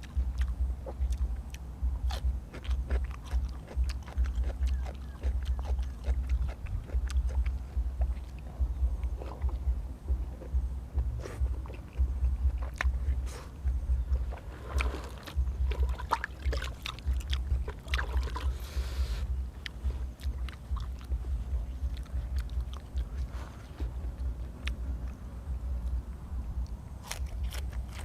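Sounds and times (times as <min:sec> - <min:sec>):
chewing and crunching: 0:00.0 - 0:28.0
low rumble on microphone: 0:00.0 - 0:28.0.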